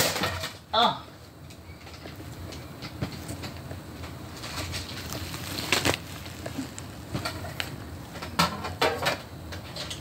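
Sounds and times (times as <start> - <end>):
steady low hum: 0.5 - 10.0
crinkly rustling and clatter: 1.7 - 10.0.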